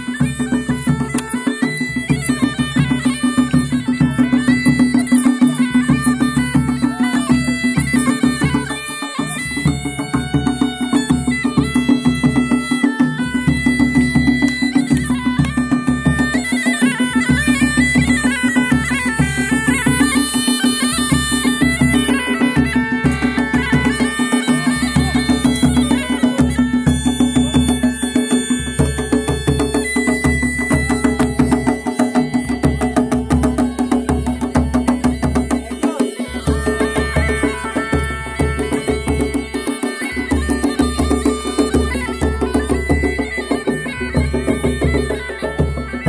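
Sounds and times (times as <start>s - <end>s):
bagpipe playing folk melody: 0.0s - 46.0s
drum beating steady rhythm: 0.0s - 46.0s.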